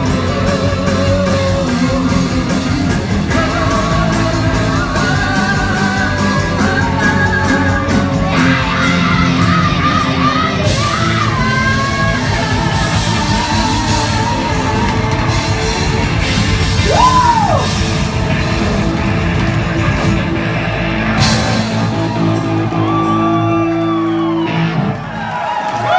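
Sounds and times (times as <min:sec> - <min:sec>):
drums: 0:00.0 - 0:25.9
electric guitar: 0:00.0 - 0:25.9.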